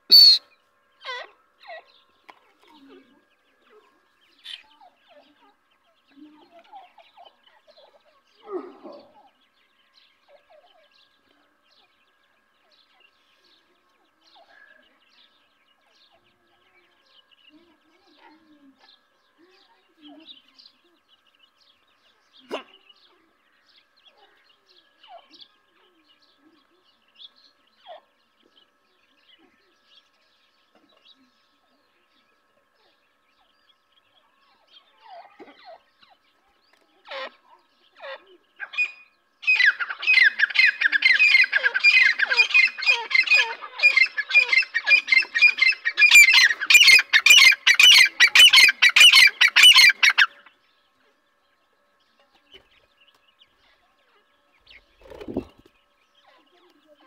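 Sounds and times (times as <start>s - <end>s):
francolin chicks peeping and chirping: 0.0s - 8.4s, 9.2s - 57.0s.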